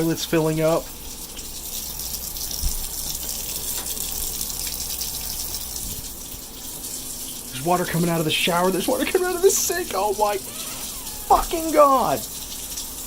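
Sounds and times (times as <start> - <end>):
water running through plumbing: 0.0 - 13.0.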